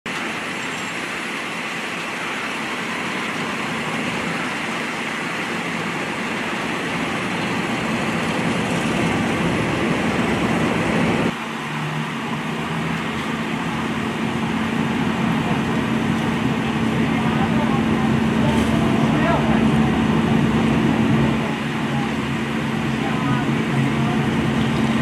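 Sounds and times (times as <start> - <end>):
vehicle engines rumbling: 0.1 - 25.0.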